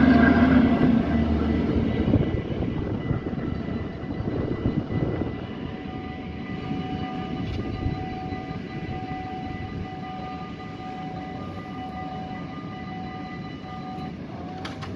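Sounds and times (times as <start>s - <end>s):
continuous low rumble: 0.0s - 14.9s
level crossing warning bells: 0.0s - 14.9s.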